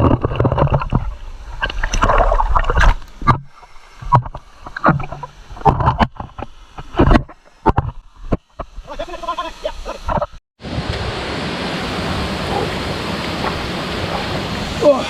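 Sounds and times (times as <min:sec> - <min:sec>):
water splashing and sloshing: 0:00.0 - 0:09.0, 0:09.7 - 0:15.0.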